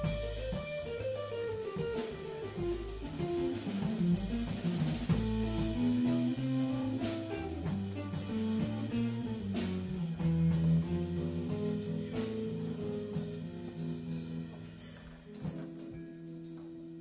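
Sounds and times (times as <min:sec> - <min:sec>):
jazz guitar bass and drums: 0:00.0 - 0:17.0.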